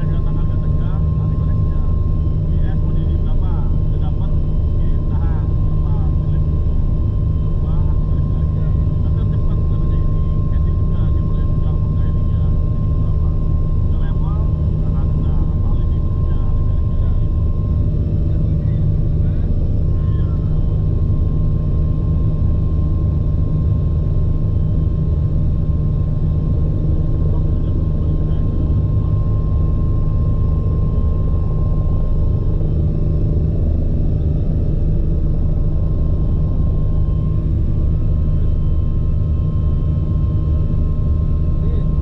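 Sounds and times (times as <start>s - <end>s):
helicopter rotor and engine drone: 0.0s - 42.0s
high turbine whine: 0.0s - 42.0s.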